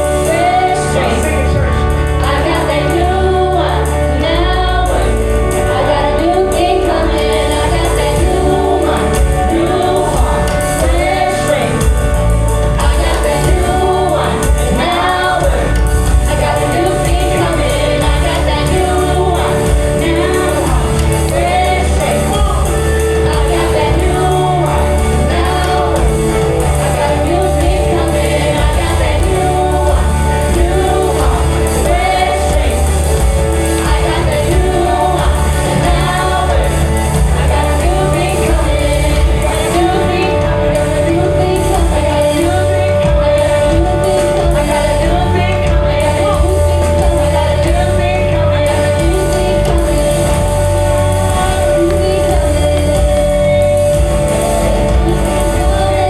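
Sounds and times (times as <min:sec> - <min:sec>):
band with steady bass: 0:00.0 - 0:56.0
choir singing: 0:00.0 - 0:56.0.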